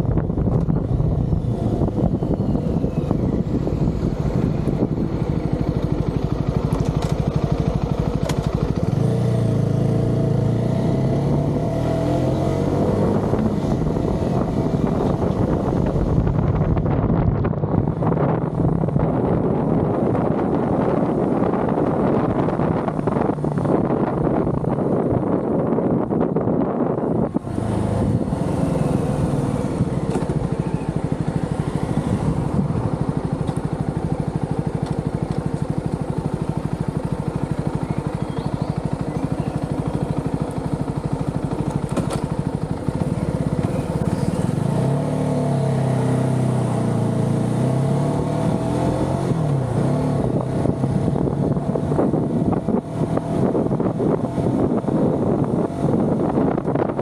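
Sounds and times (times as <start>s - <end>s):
wind on microphone: 0.0s - 6.2s, 10.2s - 40.4s, 42.4s - 57.0s
motorcycle engine revving: 0.0s - 57.0s.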